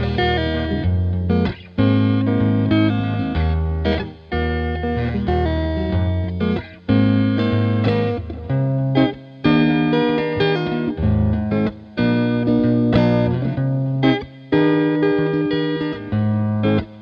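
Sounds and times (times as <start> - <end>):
guitar background music: 0.0 - 17.0.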